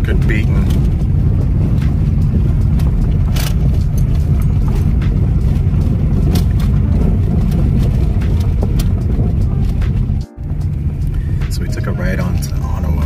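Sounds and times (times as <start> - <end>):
tyres rumbling on gravel: 0.0 - 13.0
sharp ticks: 0.1 - 11.9.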